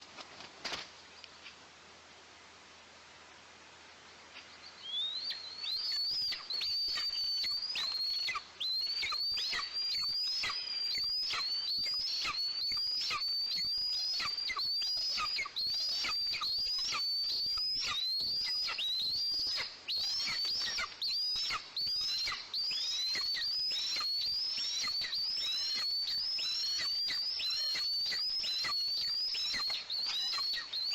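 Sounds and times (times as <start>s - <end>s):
nestling birds begging calls: 4.9s - 30.9s.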